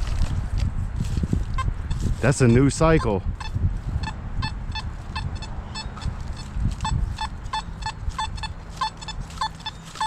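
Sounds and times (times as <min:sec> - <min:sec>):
metal detector beeps: 0:01.6 - 0:10.0.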